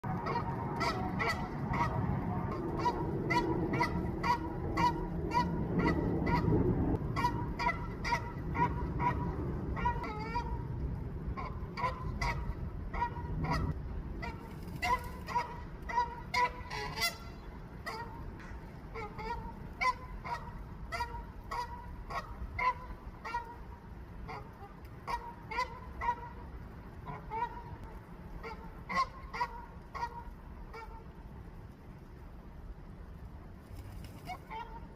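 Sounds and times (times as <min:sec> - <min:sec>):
goose honking: 0:00.0 - 0:10.7, 0:11.3 - 0:23.6, 0:24.3 - 0:31.0, 0:34.3 - 0:34.9.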